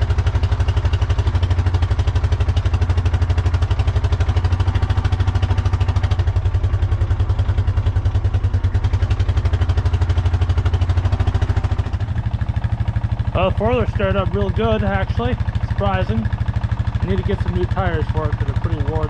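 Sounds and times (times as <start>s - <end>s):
atv engine idling: 0.0s - 19.0s.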